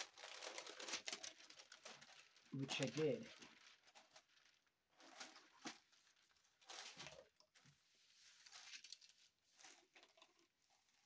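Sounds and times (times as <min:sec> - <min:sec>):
parchment paper rustling: 0:00.0 - 0:11.0.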